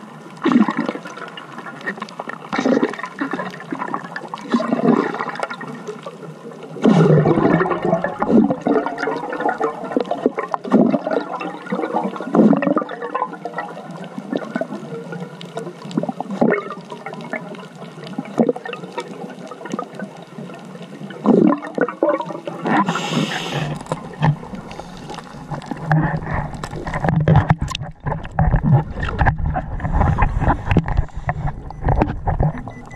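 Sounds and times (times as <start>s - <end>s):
underwater bubbles gurgling: 0.0s - 32.9s.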